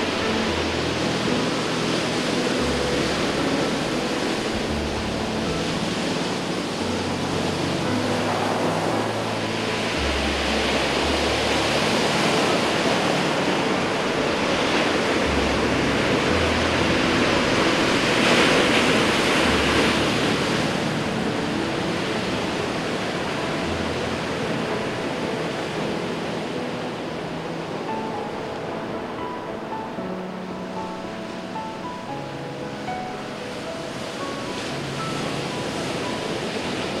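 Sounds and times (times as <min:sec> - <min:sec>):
waves crashing on rocky shore: 0:00.0 - 0:37.0.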